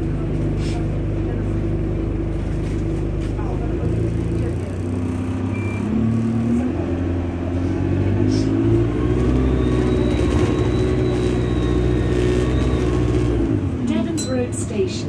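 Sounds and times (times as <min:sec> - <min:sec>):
bus diesel engine accelerating: 0:00.0 - 0:15.0.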